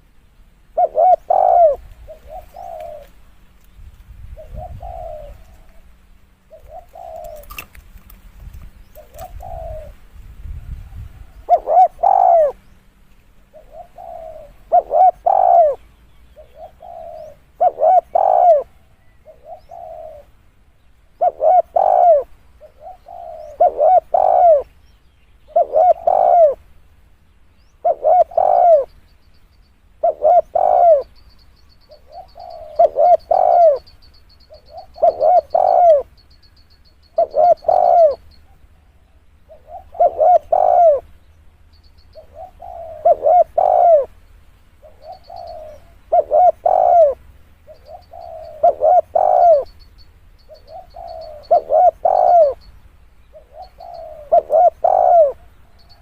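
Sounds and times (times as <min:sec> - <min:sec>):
dove cooing: 0:00.7 - 0:03.2, 0:04.2 - 0:07.8, 0:08.9 - 0:12.7, 0:13.4 - 0:20.4, 0:21.0 - 0:24.7, 0:25.5 - 0:26.7, 0:27.8 - 0:29.0, 0:30.0 - 0:41.2, 0:41.9 - 0:44.2, 0:44.8 - 0:52.7, 0:53.3 - 0:56.0.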